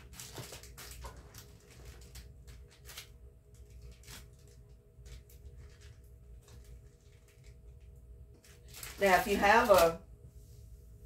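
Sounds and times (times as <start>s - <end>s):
plastic bag crinkling: 0.0s - 10.0s
faint steady hum: 0.0s - 11.0s.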